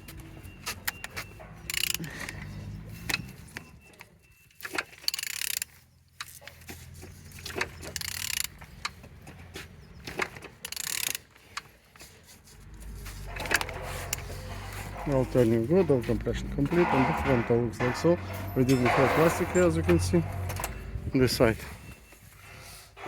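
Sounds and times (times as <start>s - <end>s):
metallic clicks and clinks: 0.5s - 9.1s, 10.0s - 11.7s, 12.6s - 22.1s.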